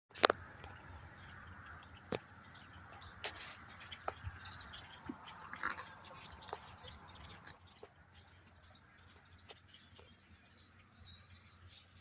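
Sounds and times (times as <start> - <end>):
flock of birds chattering: 0.1 - 12.0.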